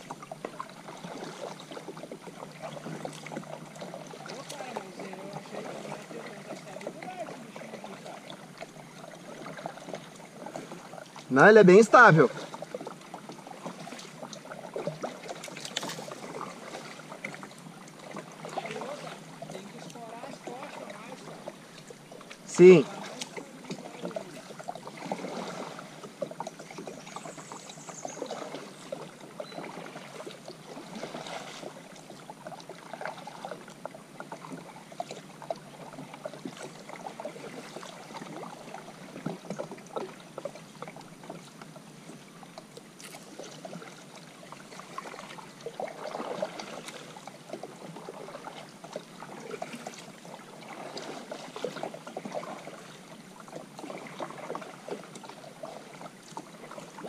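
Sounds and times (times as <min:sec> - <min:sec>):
paddle strokes sloshing water: 0:00.0 - 0:57.0
water dripping off paddle: 0:00.0 - 0:57.0.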